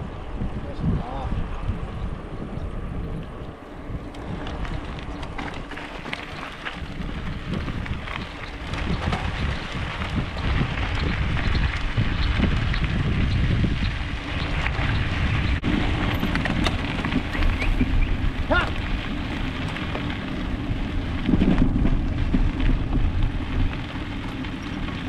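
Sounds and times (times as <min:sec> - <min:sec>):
tyres rolling on trail: 0:00.0 - 0:25.0
wind buffeting microphone: 0:00.0 - 0:25.0.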